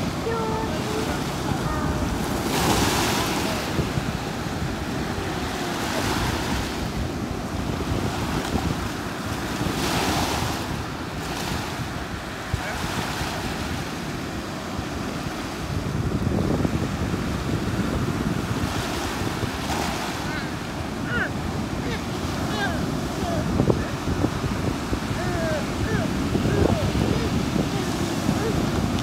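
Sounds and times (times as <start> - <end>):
surf washing over pebbles: 0.0 - 29.0
wind buffeting microphone: 0.0 - 29.0.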